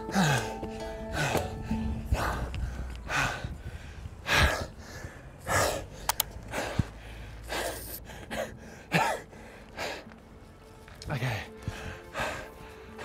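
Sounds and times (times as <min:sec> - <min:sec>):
man panting heavily: 0:00.0 - 0:10.2, 0:11.6 - 0:13.0.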